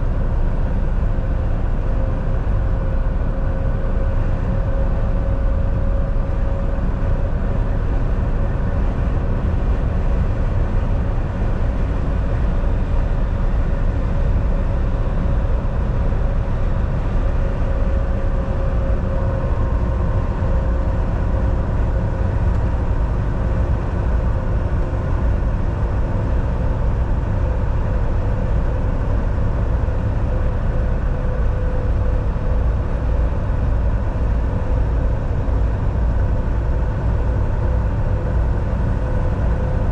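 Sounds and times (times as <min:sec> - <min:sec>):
faint steady whine: 0:00.0 - 0:39.9
truck engine drone: 0:00.0 - 0:39.9.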